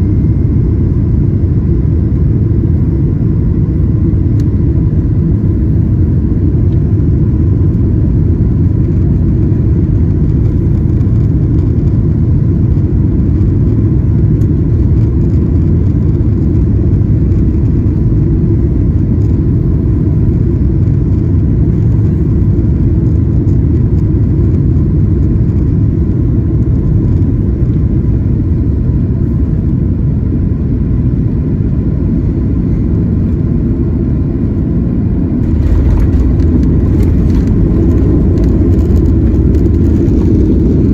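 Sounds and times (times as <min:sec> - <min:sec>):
airplane cabin rumble: 0:00.0 - 0:40.9
faint steady whine: 0:00.0 - 0:40.9.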